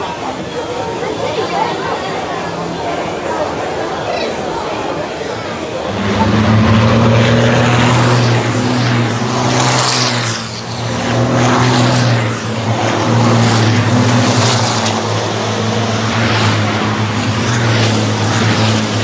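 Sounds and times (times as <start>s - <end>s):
diesel truck engines droning: 0.0s - 19.0s
rushing noise of passing trucks: 0.0s - 19.0s.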